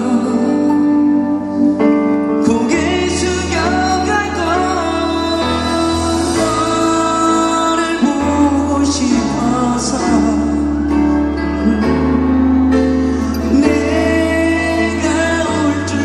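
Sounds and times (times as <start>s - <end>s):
man singing a ballad: 0.0s - 12.3s, 13.1s - 16.0s
amplified backing music: 0.0s - 16.0s.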